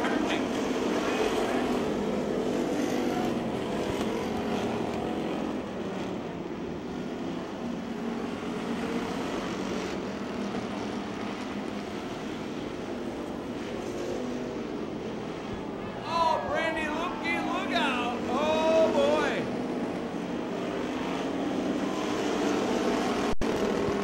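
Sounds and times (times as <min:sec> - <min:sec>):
stock car engines racing: 0:00.0 - 0:24.0.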